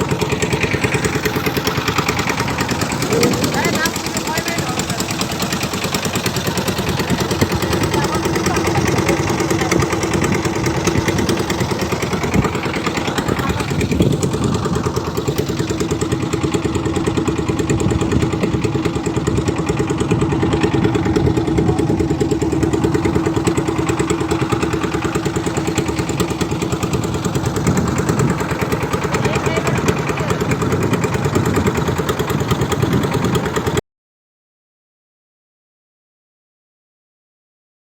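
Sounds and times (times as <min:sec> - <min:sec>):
boat engine running steadily: 0:00.0 - 0:33.8.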